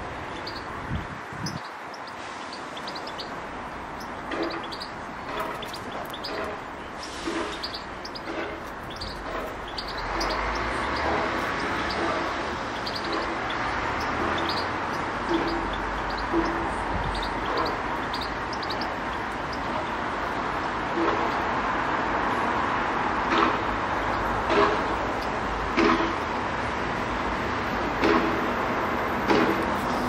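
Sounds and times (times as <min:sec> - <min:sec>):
small birds chirping: 0:00.0 - 0:21.6, 0:23.2 - 0:26.4.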